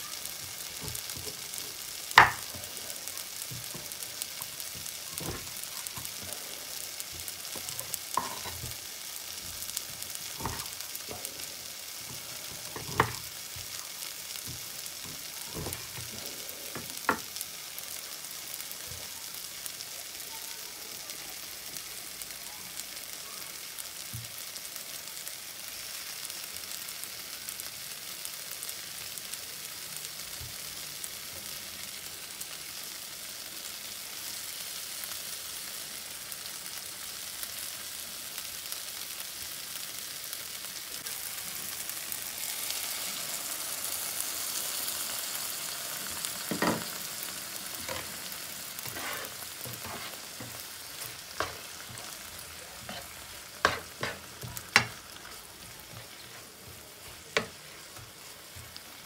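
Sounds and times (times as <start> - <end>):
onions and tomatoes sizzling in pan: 0.0 - 59.0.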